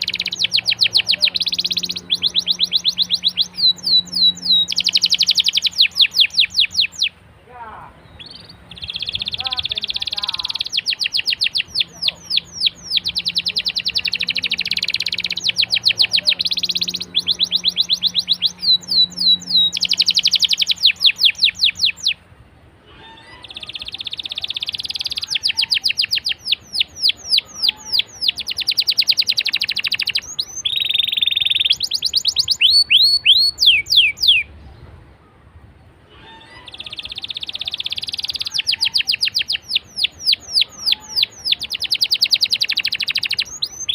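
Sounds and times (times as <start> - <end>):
canary singing trilled song: 0.0 - 7.2, 8.0 - 22.2, 23.0 - 34.6, 36.3 - 43.9.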